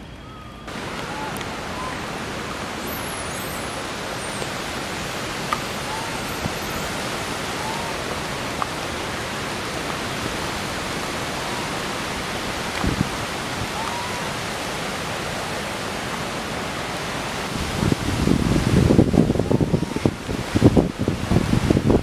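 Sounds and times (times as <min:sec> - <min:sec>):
steady rushing noise: 0:00.7 - 0:22.0.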